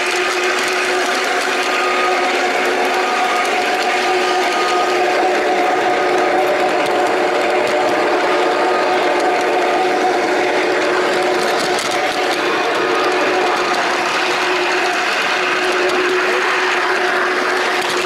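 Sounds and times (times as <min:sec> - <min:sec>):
model train motor whirring: 0:00.0 - 0:18.0
steady whining tones: 0:00.0 - 0:18.0.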